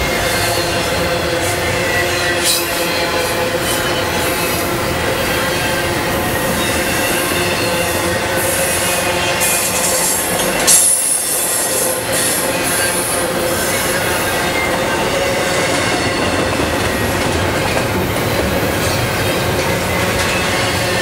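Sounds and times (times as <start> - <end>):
freight train wheels rumbling: 0.0 - 21.0
sudden sharp train sound: 0.0 - 21.0.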